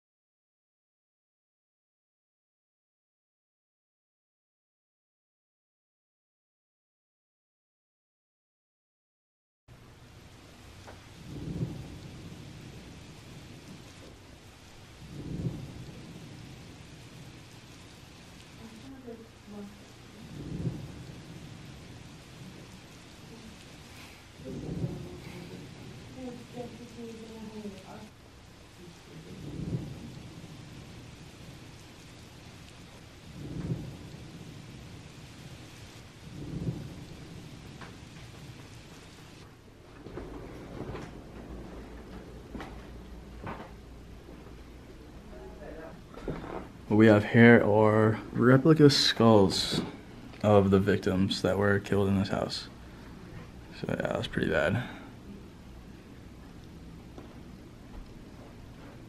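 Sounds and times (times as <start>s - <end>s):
steady hiss: 9.7s - 59.0s
steady rain: 9.7s - 59.0s
thunder rumbling: 9.7s - 59.0s.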